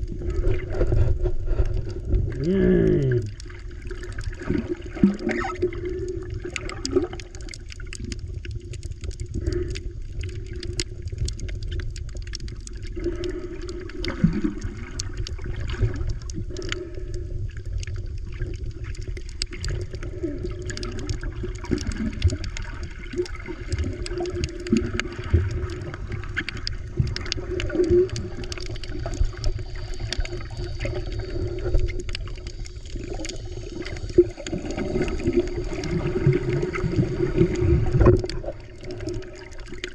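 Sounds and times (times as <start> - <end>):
muffled underwater rumble of water: 0.0 - 39.9
small underwater clicks and crackles: 0.0 - 39.9.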